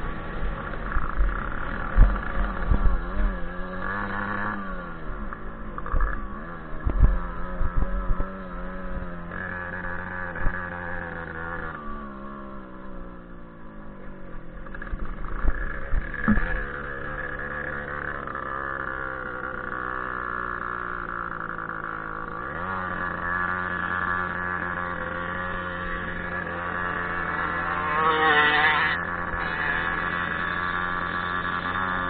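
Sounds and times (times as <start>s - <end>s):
motorcycle engine running: 0.0s - 32.0s
passing motorcycle: 0.0s - 32.0s.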